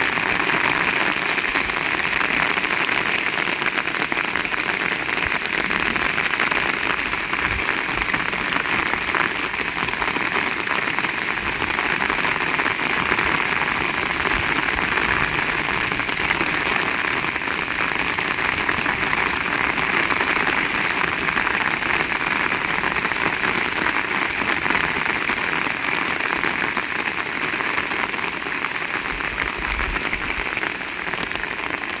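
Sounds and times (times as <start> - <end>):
heavy rain hiss: 0.0 - 32.0.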